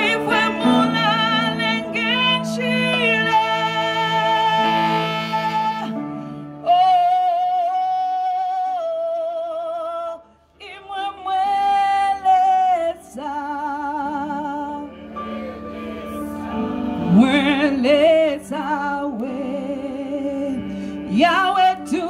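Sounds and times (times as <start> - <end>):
sustained chord accompaniment: 0.0 - 6.8, 10.9 - 22.0
woman singing into a microphone: 0.0 - 14.9, 17.1 - 22.0.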